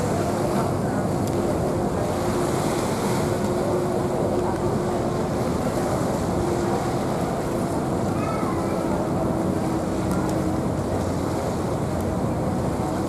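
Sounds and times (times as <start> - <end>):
boat engine hum: 0.0 - 13.0
wind and water rushing: 0.0 - 13.0.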